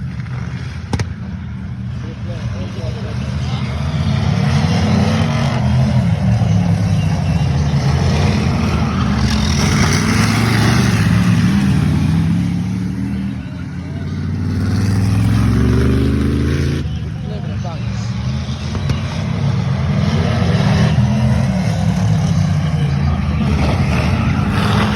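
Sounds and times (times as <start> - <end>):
racing car engines: 0.0 - 24.9.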